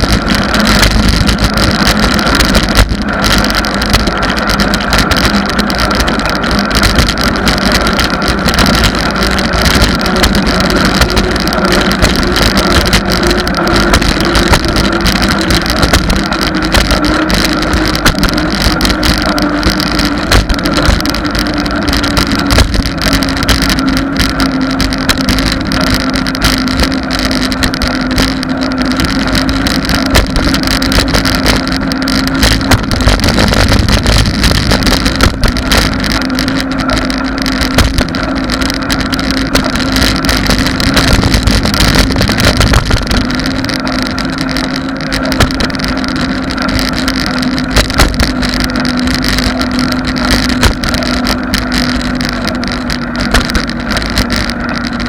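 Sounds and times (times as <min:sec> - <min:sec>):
road noise on asphalt: 0:00.0 - 0:55.0
wind buffeting microphone: 0:00.0 - 0:55.0.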